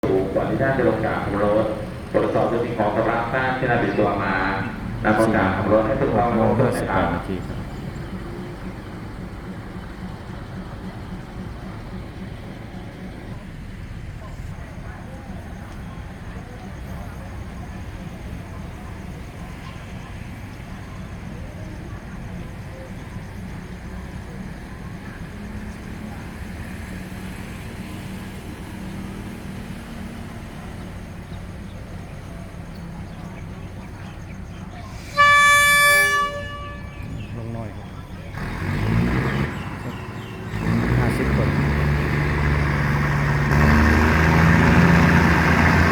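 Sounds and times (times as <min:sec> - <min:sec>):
diesel train engine idling: 0:00.0 - 0:45.9.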